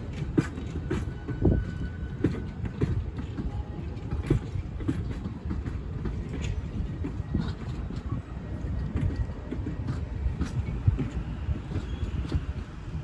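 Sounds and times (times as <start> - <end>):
train cars rumbling: 0.0 - 13.0
wheels clicking over rail joints: 0.0 - 13.0.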